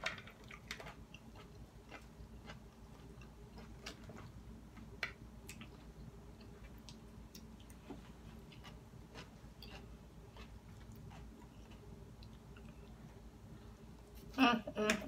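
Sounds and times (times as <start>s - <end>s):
person chewing salad: 0.2s - 13.2s.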